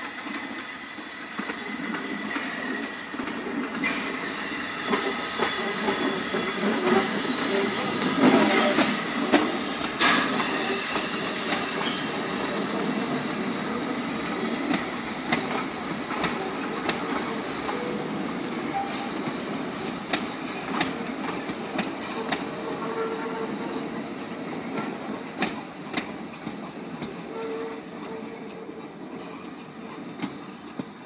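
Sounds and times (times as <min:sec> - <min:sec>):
loud steam hiss: 0:00.0 - 0:30.7
steam locomotive passing: 0:00.0 - 0:31.0
wheels clicking over rail joints: 0:01.4 - 0:31.0.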